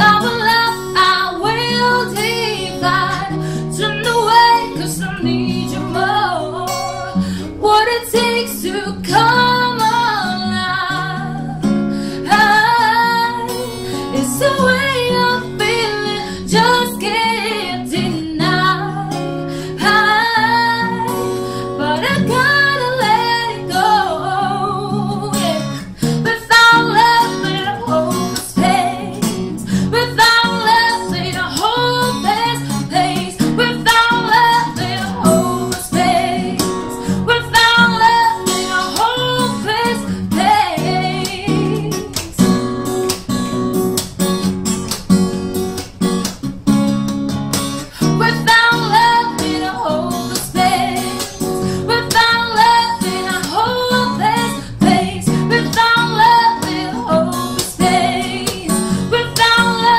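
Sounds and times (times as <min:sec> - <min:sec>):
woman singing: 0:00.0 - 0:43.3, 0:47.9 - 0:59.9
strummed acoustic guitar: 0:00.0 - 0:59.9.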